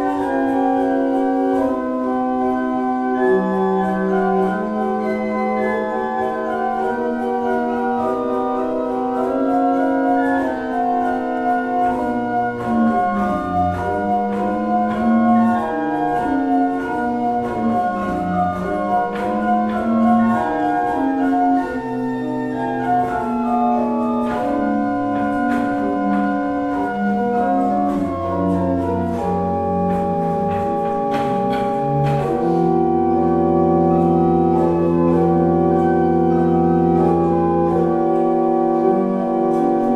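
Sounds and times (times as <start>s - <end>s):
pipe organ chords: 0.0s - 39.9s
deep organ pedal bass notes: 0.1s - 39.9s.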